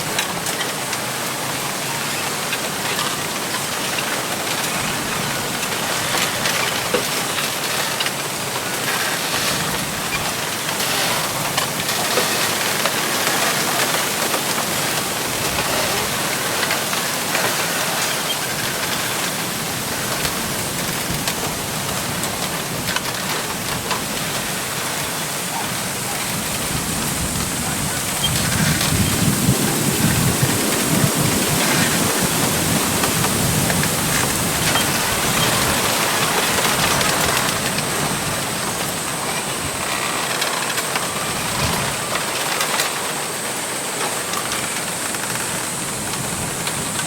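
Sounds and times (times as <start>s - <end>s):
wind rustling bamboo leaves: 0.0s - 47.0s.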